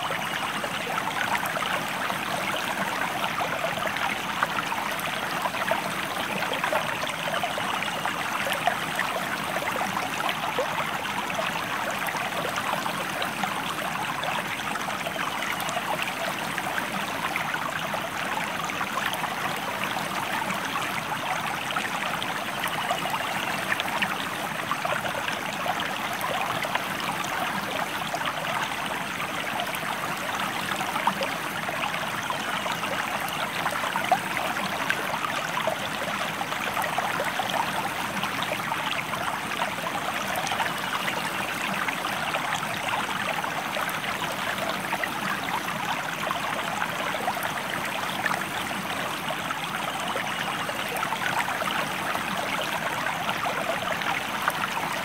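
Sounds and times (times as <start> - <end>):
stream babbling over stones: 0.0 - 55.0.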